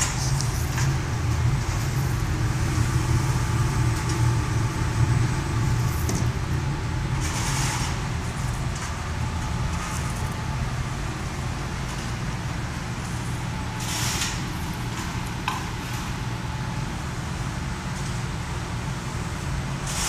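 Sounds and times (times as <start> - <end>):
coffee roaster humming: 0.0 - 20.0.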